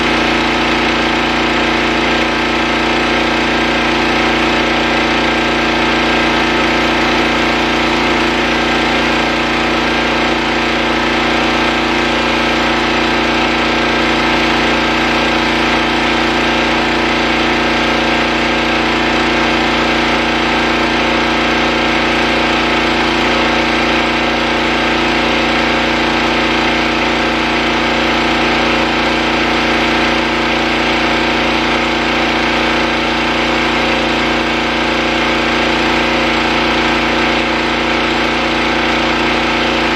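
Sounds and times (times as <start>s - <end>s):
pressure washer engine running: 0.0s - 39.9s
surface cleaner on concrete: 0.0s - 39.9s.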